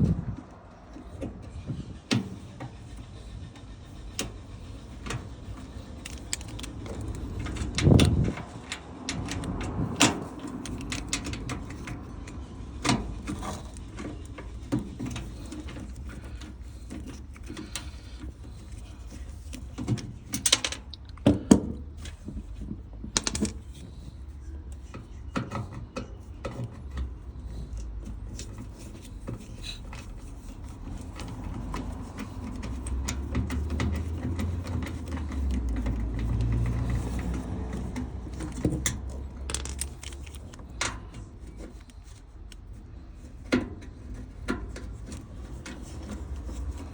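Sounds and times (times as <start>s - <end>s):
clicks and clunks of pump parts: 0.2s - 46.9s
tools being handled: 4.0s - 46.9s.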